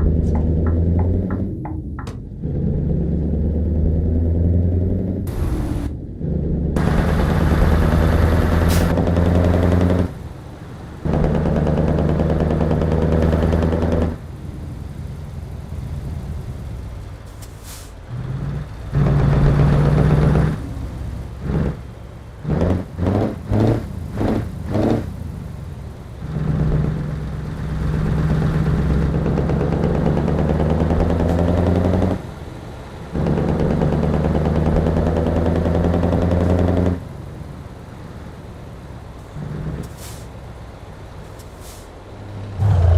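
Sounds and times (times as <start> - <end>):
diesel truck engine revving: 0.0 - 42.9.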